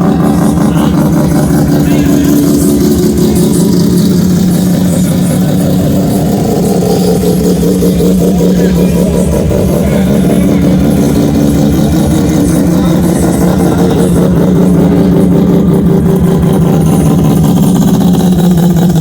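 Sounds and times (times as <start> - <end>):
engine running loudly: 0.0 - 19.0.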